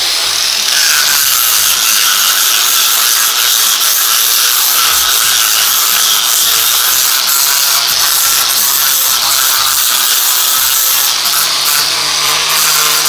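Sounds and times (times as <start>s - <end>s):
grinder grinding concrete: 0.0s - 13.0s.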